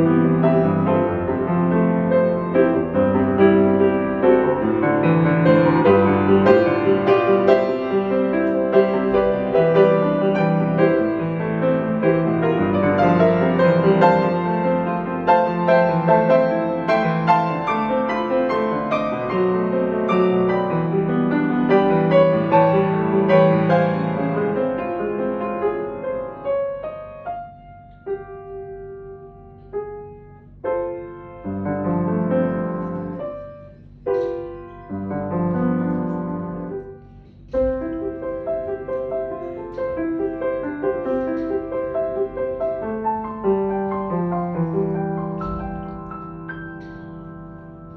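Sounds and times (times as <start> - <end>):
piano playing: 0.0 - 47.9.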